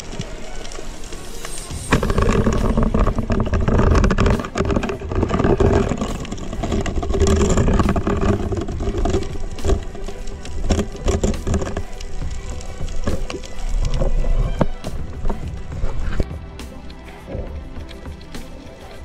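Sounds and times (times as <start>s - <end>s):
fish thrashing clicks and crackles: 0.0s - 19.0s
underwater rumbling: 0.0s - 19.0s.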